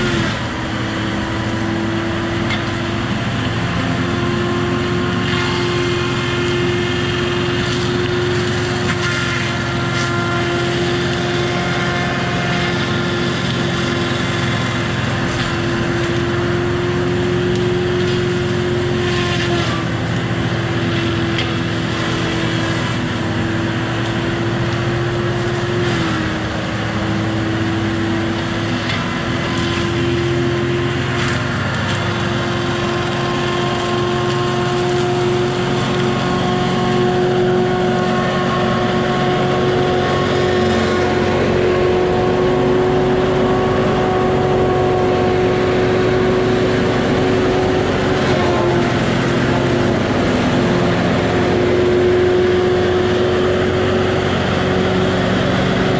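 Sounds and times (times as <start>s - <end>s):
heavy machine diesel engine: 0.0s - 55.9s.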